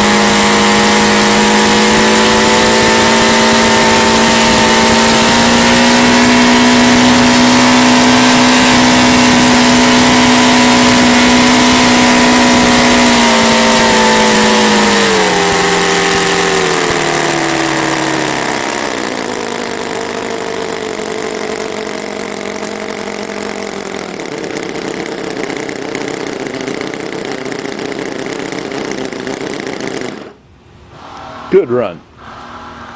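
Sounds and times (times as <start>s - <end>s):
model radial engine running: 0.0s - 30.4s.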